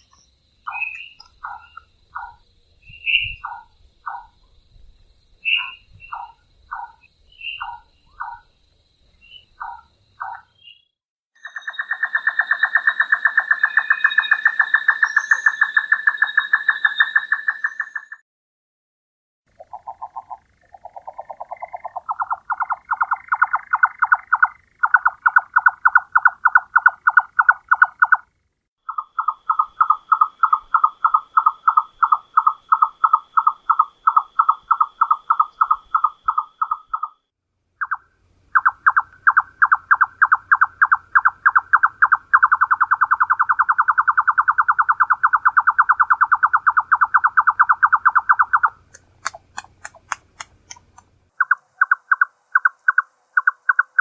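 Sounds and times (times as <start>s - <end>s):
nightjar churring song: 0.0s - 18.2s, 19.5s - 50.0s, 50.7s - 54.0s.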